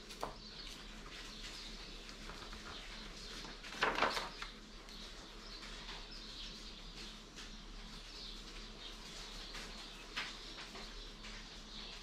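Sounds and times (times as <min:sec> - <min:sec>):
faint background hum: 0:00.0 - 0:12.0
small birds chirping: 0:00.0 - 0:12.0.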